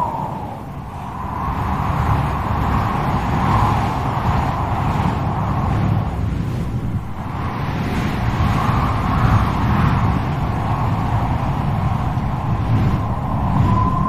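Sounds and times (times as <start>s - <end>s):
strong wind blowing: 0.0s - 14.0s
wind whistling: 0.0s - 14.0s.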